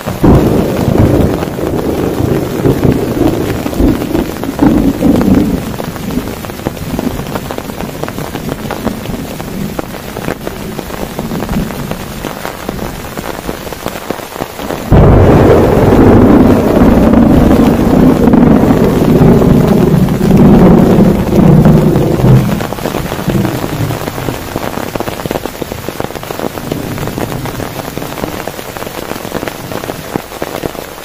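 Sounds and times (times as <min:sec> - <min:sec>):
thunder rumbling: 0:00.0 - 0:30.9
heavy rain on a tent: 0:00.0 - 0:31.0.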